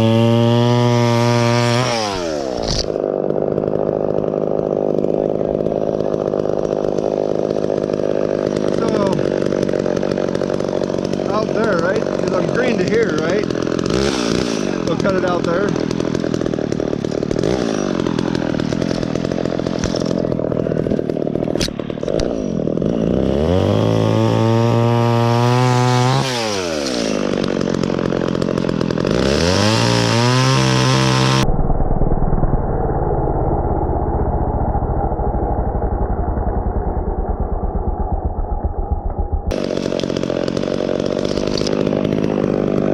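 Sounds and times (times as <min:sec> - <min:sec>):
chainsaw revving: 0:00.0 - 0:31.4, 0:36.8 - 0:42.9.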